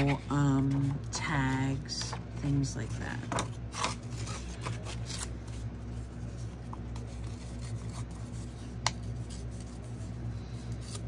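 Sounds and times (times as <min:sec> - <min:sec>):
paper rustling and scratching: 0:00.0 - 0:11.0
steady low hum: 0:00.0 - 0:11.0.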